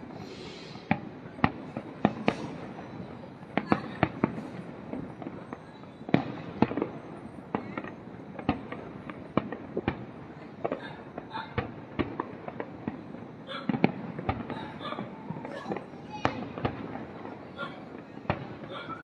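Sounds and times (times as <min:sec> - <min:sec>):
fireworks exploding: 0:00.0 - 0:19.0.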